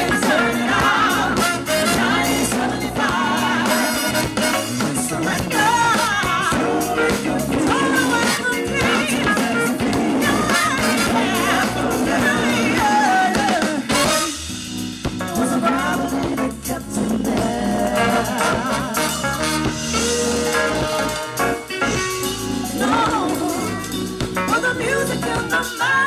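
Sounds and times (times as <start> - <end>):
distorted live band with singing: 0.0 - 26.0.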